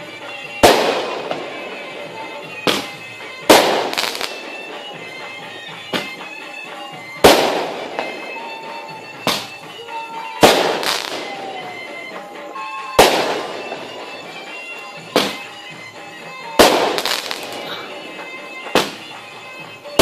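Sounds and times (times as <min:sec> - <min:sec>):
fireworks bangs with echo: 0:00.0 - 0:20.0.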